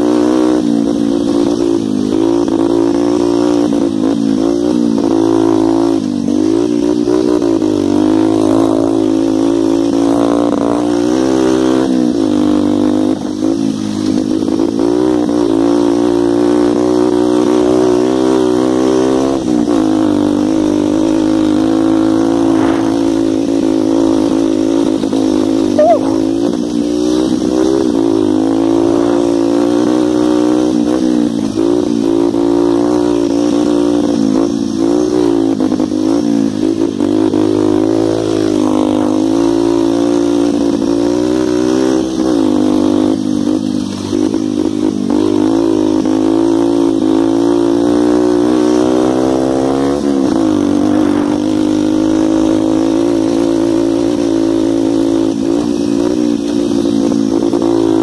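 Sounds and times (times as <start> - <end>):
dirt bike engine running hard: 0.0 - 58.0.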